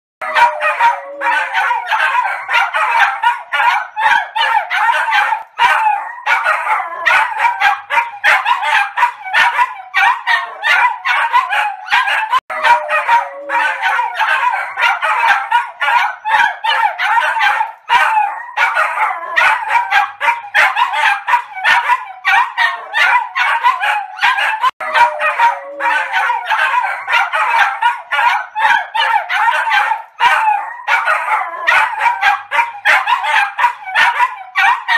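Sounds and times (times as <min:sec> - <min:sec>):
small dogs yapping: 0:00.2 - 0:34.9.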